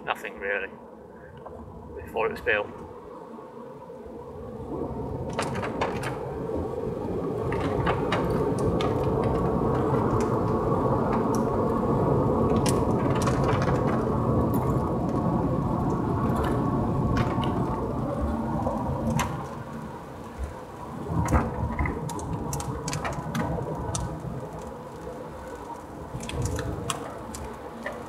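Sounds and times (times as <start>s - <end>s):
tyre noise on wet road: 4.5s - 28.0s
raindrops hitting car: 4.8s - 28.0s.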